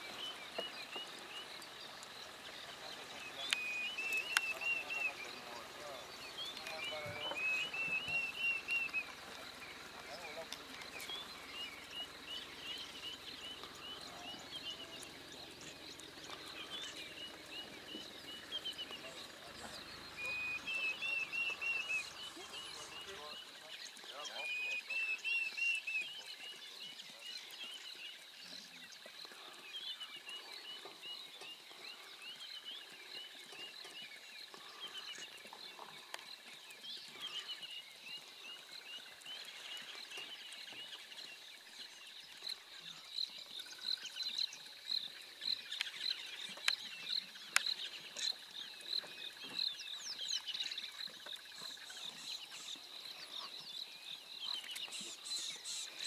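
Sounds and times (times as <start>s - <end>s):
frogs calling with high pulsing: 0.0s - 56.0s.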